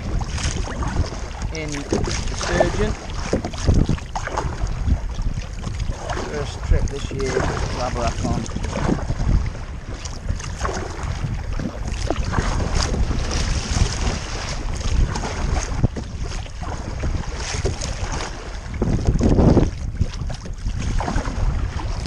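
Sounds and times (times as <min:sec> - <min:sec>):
water slapping against kayak hull: 0:00.0 - 0:22.0
wind buffeting microphone: 0:00.0 - 0:22.0.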